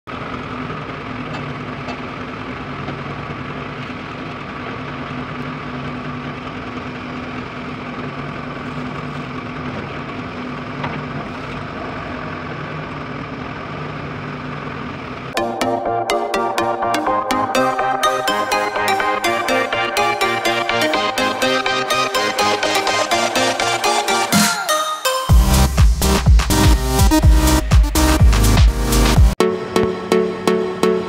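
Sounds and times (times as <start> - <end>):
diesel engine running: 0.1 - 24.4, 25.3 - 31.0.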